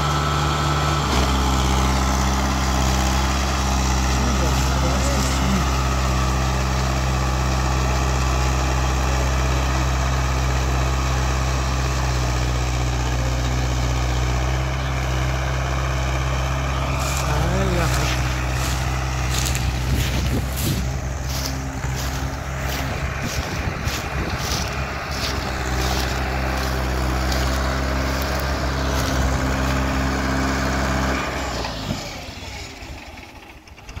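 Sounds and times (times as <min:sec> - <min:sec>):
diesel tractor engine running: 0:00.0 - 0:34.0.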